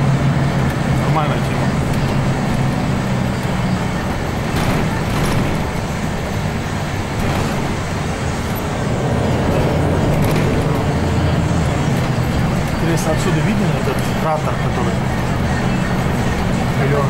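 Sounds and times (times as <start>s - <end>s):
bus engine hum: 0.0s - 17.0s
tyre and road noise: 0.0s - 17.0s.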